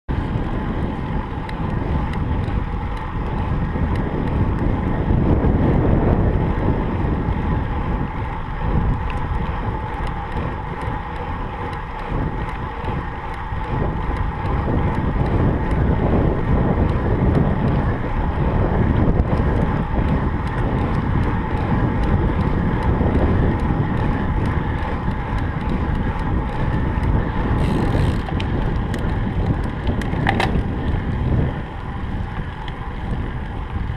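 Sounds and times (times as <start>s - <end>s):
wind rushing on microphone: 0.1s - 33.9s.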